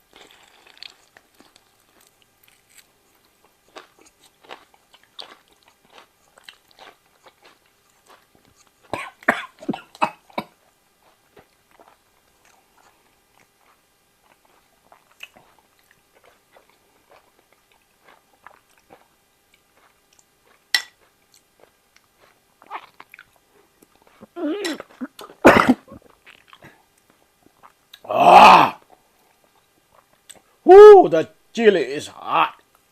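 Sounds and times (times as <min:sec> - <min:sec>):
person chewing with wet clicks: 0:00.1 - 0:25.4, 0:26.0 - 0:28.1, 0:28.8 - 0:30.5.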